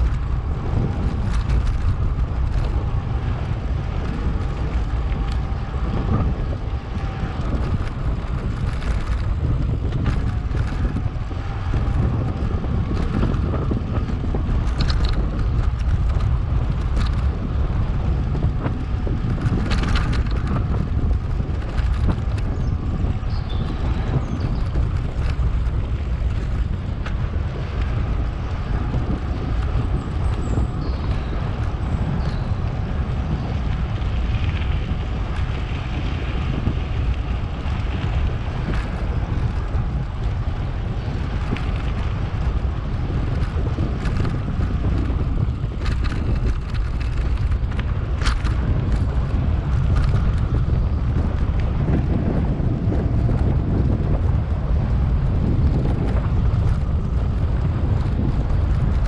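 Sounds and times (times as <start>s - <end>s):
bike knocks and rattles: 0.0s - 59.0s
wind buffeting microphone: 0.0s - 59.0s.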